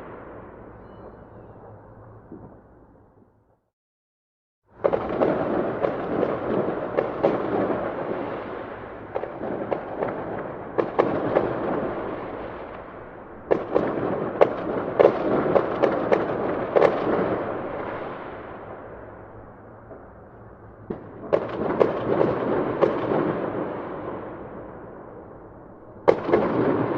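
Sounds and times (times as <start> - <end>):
fireworks crackling and banging: 4.7 - 25.4, 26.0 - 26.9.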